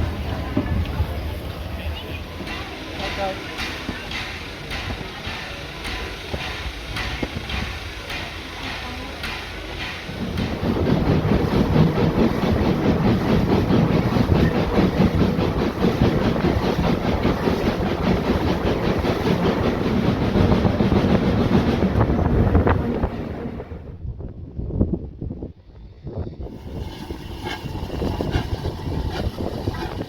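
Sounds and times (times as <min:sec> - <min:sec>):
train wheels clattering on track: 0:00.0 - 0:23.8, 0:25.8 - 0:30.0.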